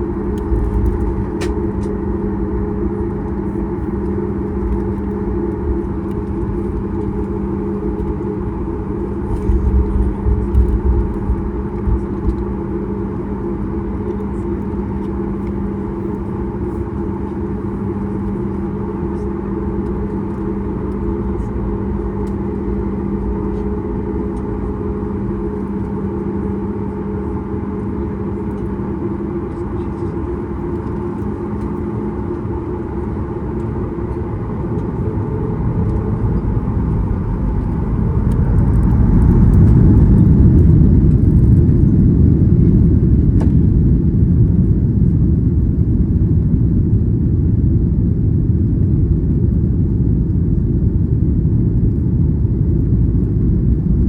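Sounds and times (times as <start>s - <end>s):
jet engines deep rumble: 0.0s - 54.0s
jet engines hum in cabin: 0.0s - 54.0s.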